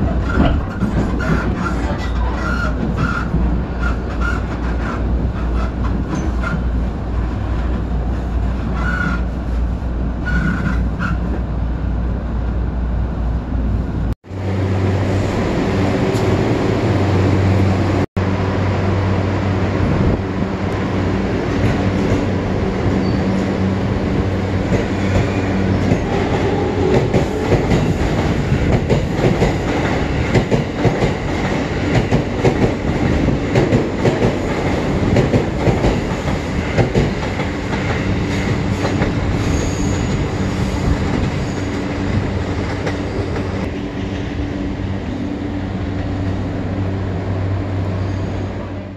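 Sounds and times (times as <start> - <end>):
train low hum: 0.0 - 48.9.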